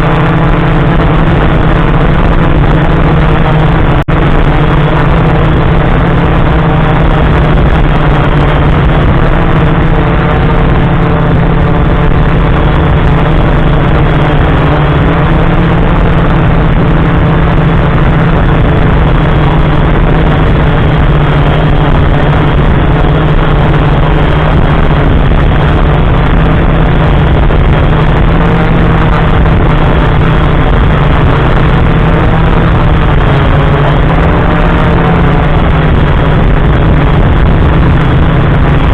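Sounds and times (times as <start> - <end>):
quadcopter motors droning: 0.0 - 38.9.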